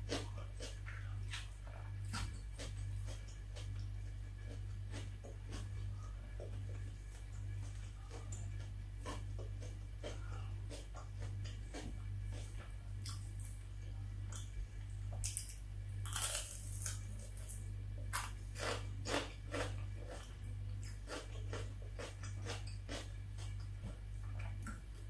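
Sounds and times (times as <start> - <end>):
chewing and crunching: 0.0 - 25.0.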